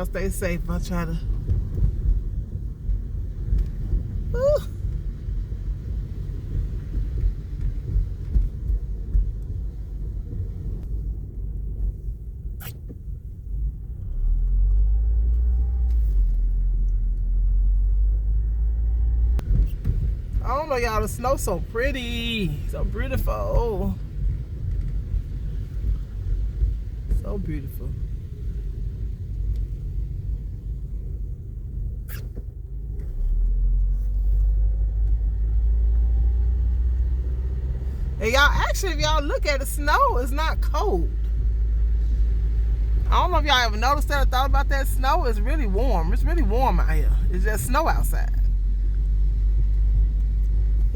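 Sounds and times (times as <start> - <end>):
car road rumble: 0.0 - 50.9.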